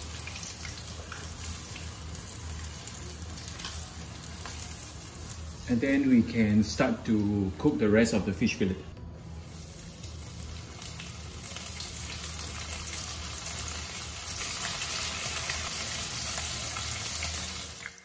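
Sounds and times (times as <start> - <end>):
hot oil sizzling in a wok: 0.0 - 6.4, 9.2 - 18.0.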